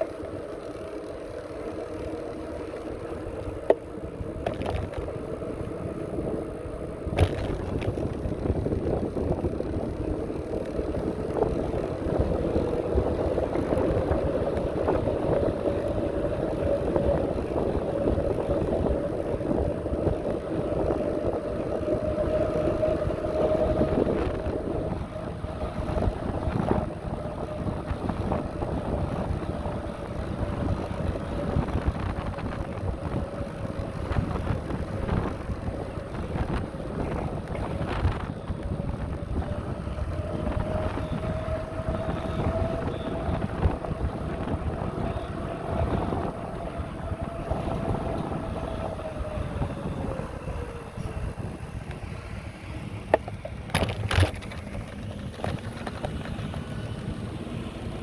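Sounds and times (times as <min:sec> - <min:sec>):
bicycle riding rumble: 0:00.0 - 0:58.0
continuous whine: 0:00.0 - 0:58.0
wind buffeting microphone: 0:00.0 - 0:58.0.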